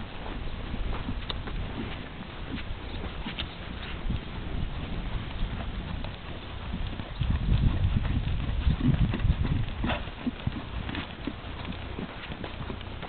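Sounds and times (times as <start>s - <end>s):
horse hooves thudding on sand: 0.0s - 13.0s.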